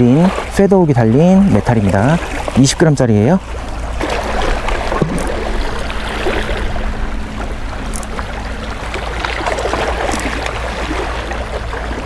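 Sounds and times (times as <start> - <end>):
small waves washing against shore: 0.0 - 12.0
wind rumbling on microphone: 0.0 - 12.0.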